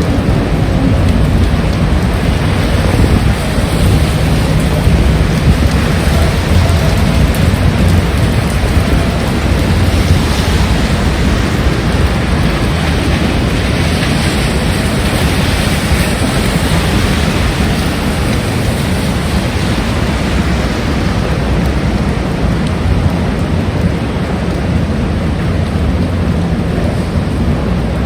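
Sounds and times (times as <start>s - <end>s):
heavy rain in strong wind: 0.0s - 28.0s
low rumble: 0.0s - 28.0s.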